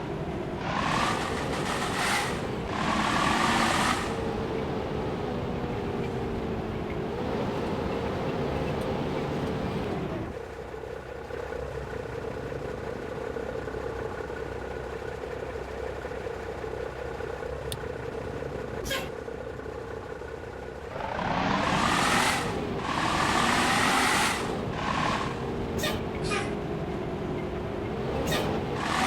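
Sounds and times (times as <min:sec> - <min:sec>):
bus engine idling: 0:00.0 - 0:29.0.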